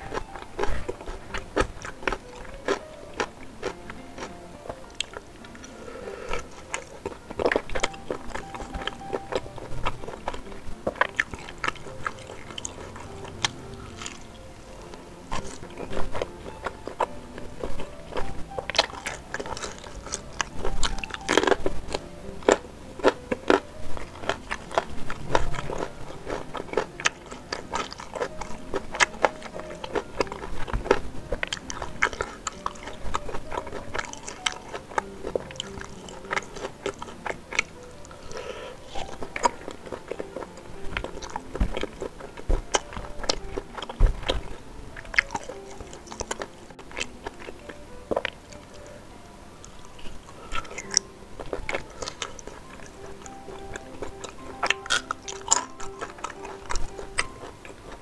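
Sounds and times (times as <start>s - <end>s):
biting and chewing food: 0.0s - 58.0s.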